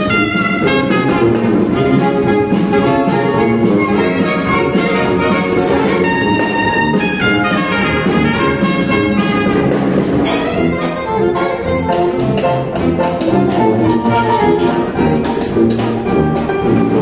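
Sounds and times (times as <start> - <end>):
jazz big band playing: 0.0 - 17.0.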